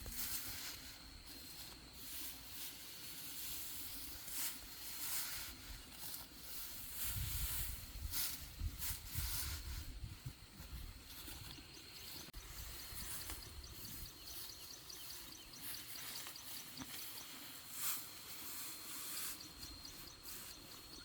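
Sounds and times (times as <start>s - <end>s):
rustling and swishing: 0.0s - 21.0s.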